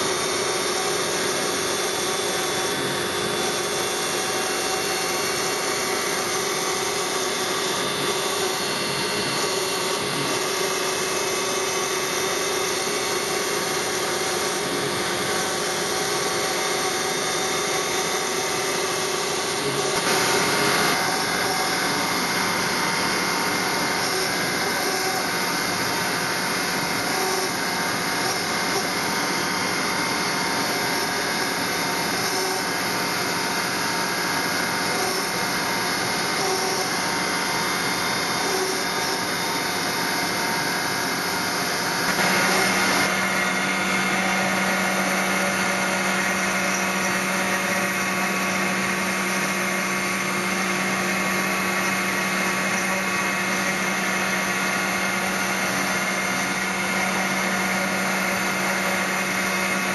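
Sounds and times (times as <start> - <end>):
machine cutter grinding stone: 0.0 - 59.9.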